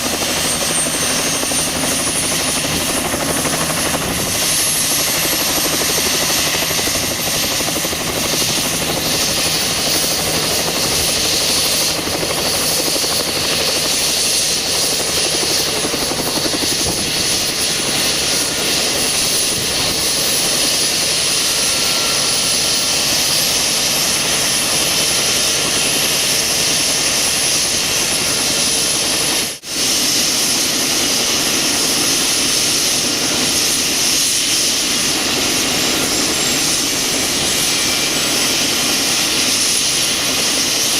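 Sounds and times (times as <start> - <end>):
helicopter rotor rushing: 0.0 - 40.9
turbine whine: 0.0 - 40.9.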